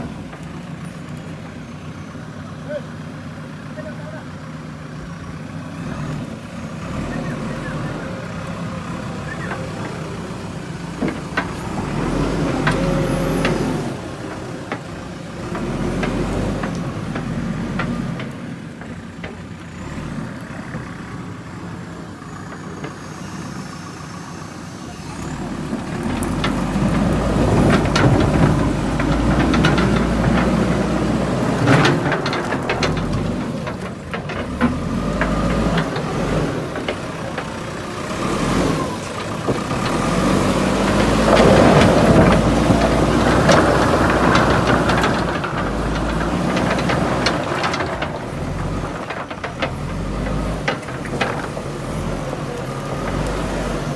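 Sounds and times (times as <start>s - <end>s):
diesel engine working: 0.0s - 53.9s.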